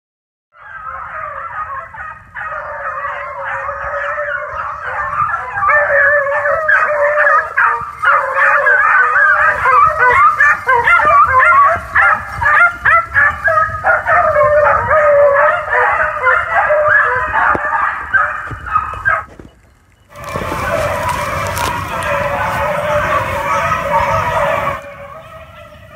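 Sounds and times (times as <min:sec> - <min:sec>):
hounds baying: 0:00.6 - 0:19.5, 0:20.1 - 0:25.9.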